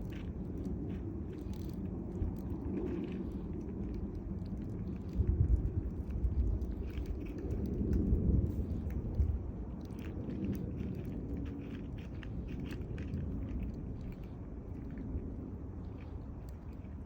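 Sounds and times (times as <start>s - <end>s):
cat chewing crunchily: 0.0s - 17.0s
steady low rumble: 0.0s - 17.0s.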